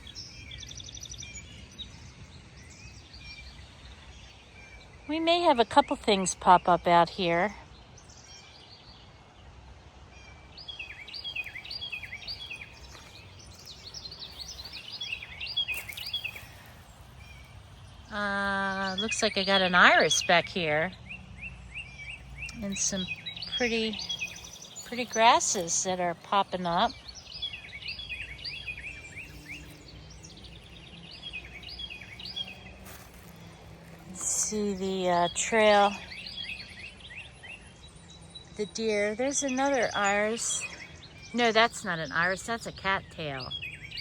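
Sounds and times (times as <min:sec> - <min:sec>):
outdoor background noise: 0:00.0 - 0:44.0
songbirds chirping: 0:00.0 - 0:44.0.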